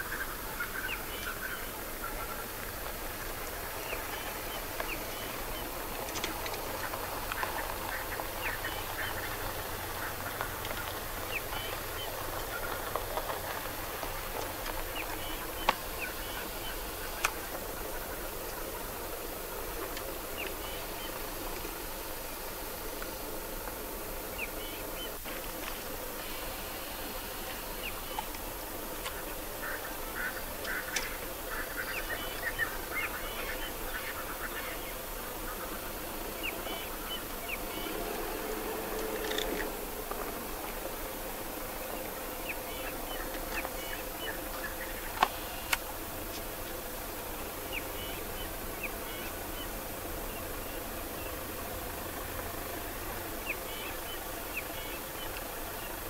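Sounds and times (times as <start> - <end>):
birds chirping: 0.0 - 56.0
drawn-out bird call: 0.0 - 56.0.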